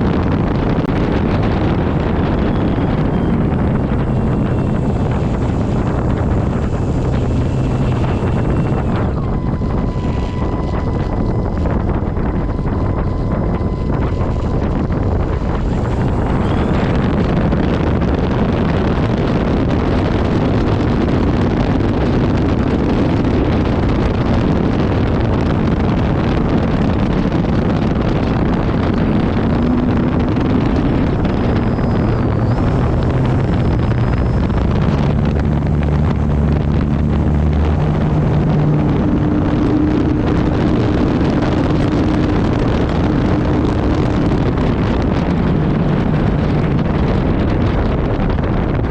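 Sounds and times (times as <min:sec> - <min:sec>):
electric motor and propeller hum: 0:00.0 - 0:48.9
wind rush on microphone: 0:00.0 - 0:48.9.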